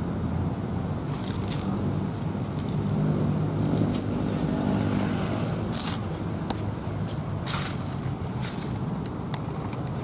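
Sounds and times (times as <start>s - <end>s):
train mechanical hum: 0.0s - 10.0s
crackles and rustles: 1.0s - 3.0s, 3.6s - 10.0s.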